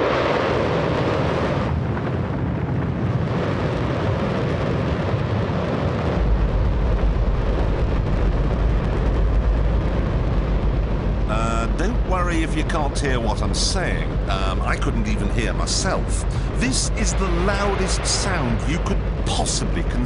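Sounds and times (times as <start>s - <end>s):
rocket engine roaring: 0.0s - 20.0s.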